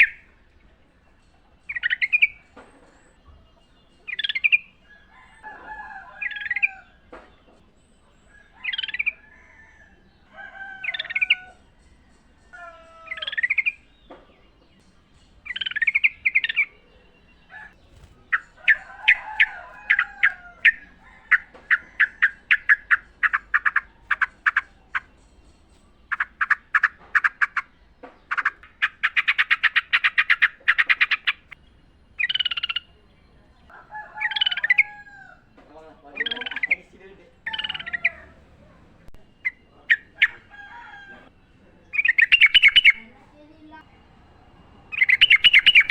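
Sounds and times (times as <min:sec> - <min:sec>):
bulbul singing: 0:00.0 - 0:45.9.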